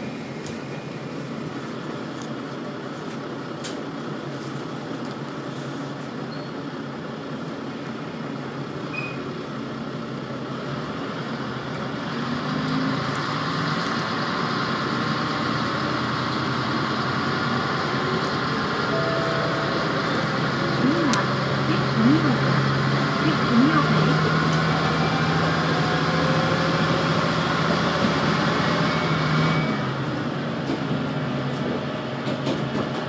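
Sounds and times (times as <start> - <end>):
diesel railcar engine running: 0.0 - 33.0.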